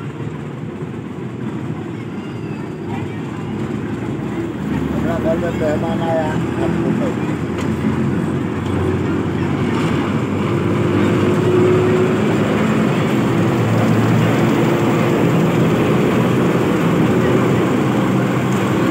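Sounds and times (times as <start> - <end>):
locomotive engine drone: 0.0 - 18.9.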